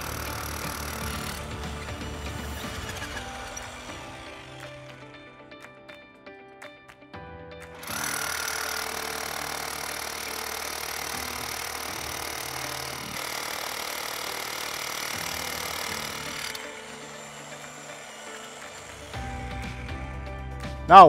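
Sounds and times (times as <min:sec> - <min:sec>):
hammer drill boring into concrete: 0:00.0 - 0:05.3, 0:07.8 - 0:20.3.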